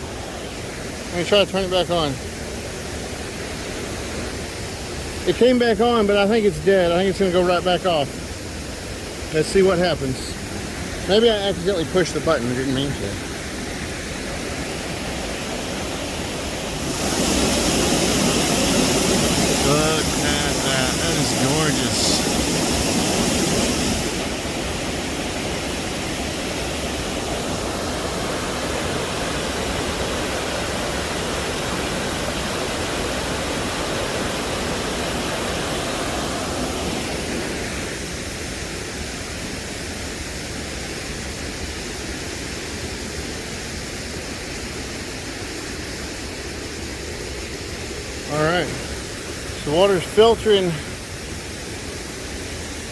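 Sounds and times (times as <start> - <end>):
waterfall and river rushing: 0.0 - 52.9.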